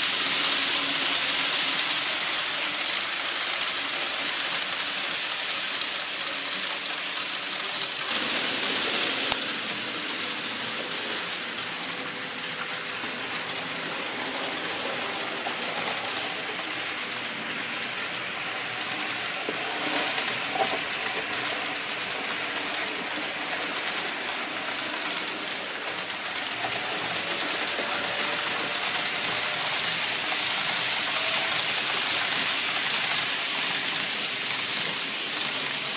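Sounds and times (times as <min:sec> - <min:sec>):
model train wheels on rails: 0:00.0 - 0:35.9.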